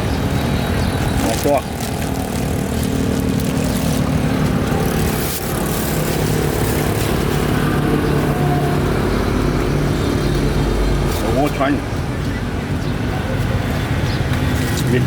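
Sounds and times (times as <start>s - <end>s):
deep engine drone: 0.0s - 12.8s
road noise: 0.0s - 15.0s
vehicle engines running: 0.0s - 15.0s.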